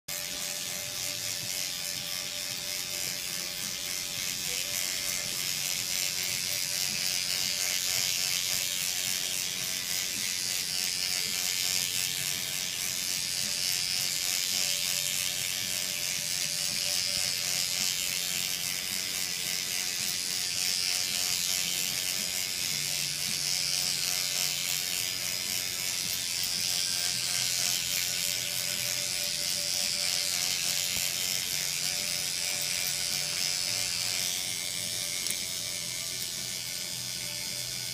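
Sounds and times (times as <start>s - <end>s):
microneedling pen buzzing: 0.0s - 37.9s.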